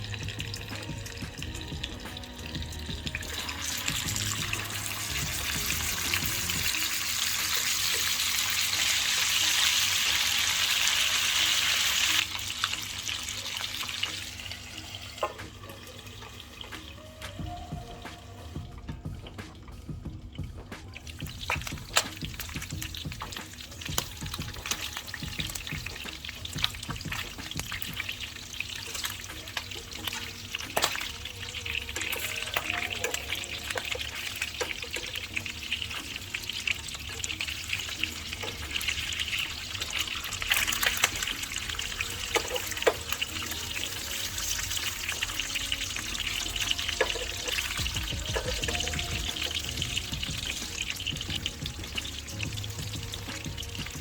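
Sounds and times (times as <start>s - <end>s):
meat sizzling in hot oil: 0.0s - 18.6s, 20.2s - 54.0s.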